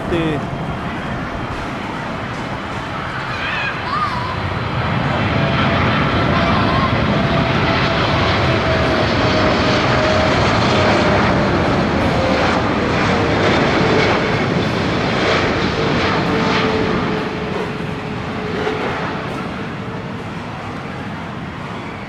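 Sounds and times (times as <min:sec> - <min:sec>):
jet engines on approach: 0:00.0 - 0:22.0.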